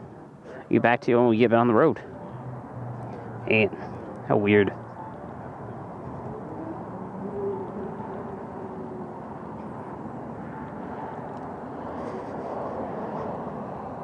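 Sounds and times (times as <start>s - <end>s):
rushing wind and road noise: 1.8s - 14.0s
faint steady tone: 2.0s - 14.0s.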